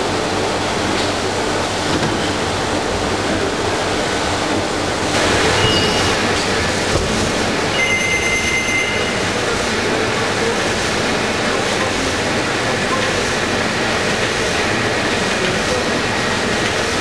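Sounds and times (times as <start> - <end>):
industrial machine running: 0.0 - 17.0.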